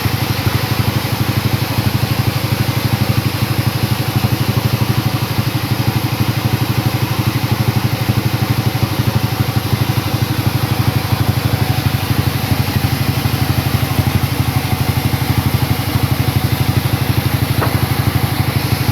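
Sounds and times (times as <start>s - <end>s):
sawmill engine chugging: 0.0s - 18.9s.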